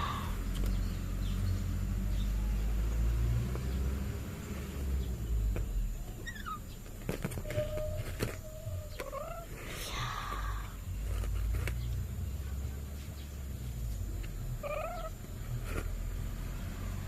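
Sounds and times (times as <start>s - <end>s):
bird chirping: 0.0s - 16.2s.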